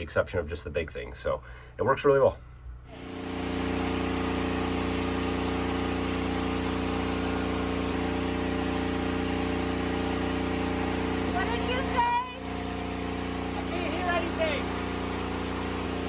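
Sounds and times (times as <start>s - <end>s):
portable generator engine running: 2.9s - 16.0s.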